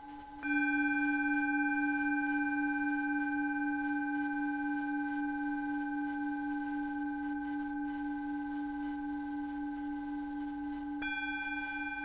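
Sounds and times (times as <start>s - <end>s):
ringing meditation tone: 0.0s - 12.0s.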